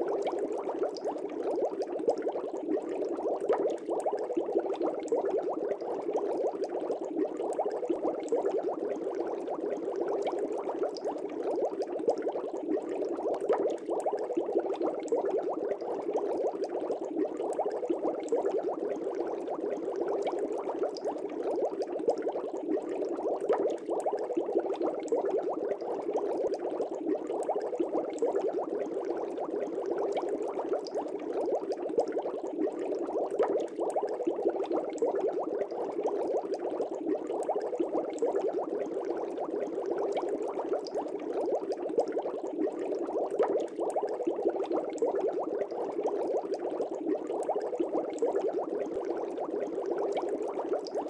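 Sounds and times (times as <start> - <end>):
aquarium air bubbles popping: 0.0 - 51.0.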